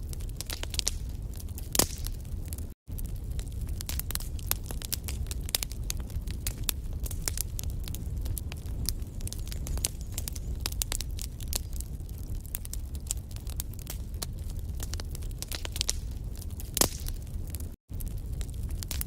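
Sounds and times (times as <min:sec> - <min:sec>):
logs crackling and popping: 0:00.0 - 0:19.0
low rumble of flame: 0:00.0 - 0:19.0.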